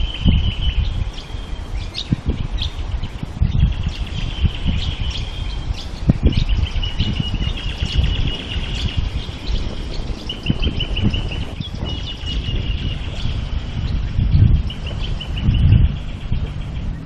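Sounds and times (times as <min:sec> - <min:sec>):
bird high rapid trill: 0:00.0 - 0:17.0
wind buffeting microphone: 0:00.0 - 0:17.0.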